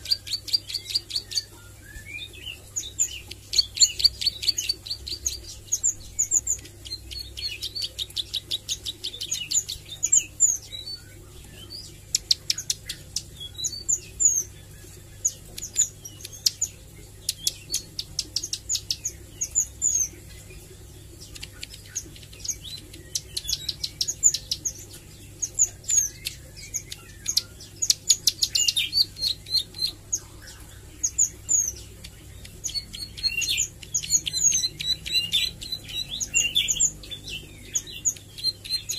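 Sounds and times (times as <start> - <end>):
bird chirps: 0.0 - 38.9
bird singing rapid high notes: 0.0 - 38.9.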